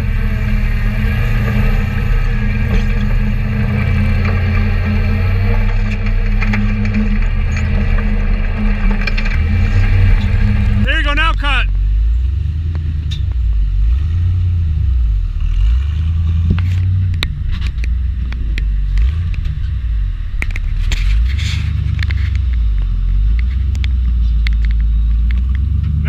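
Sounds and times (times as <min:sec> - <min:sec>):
rocks crunching under tires: 0:00.0 - 0:26.0
vehicle engine rumbling: 0:00.0 - 0:26.0.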